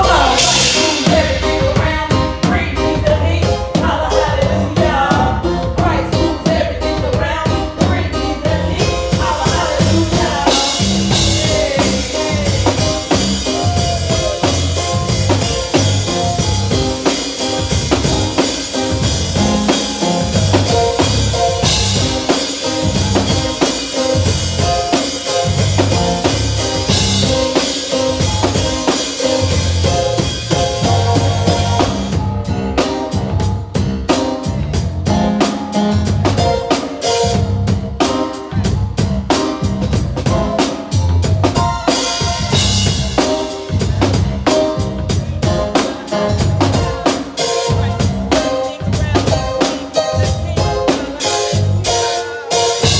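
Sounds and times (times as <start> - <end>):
drum kit groove: 0.0 - 52.9.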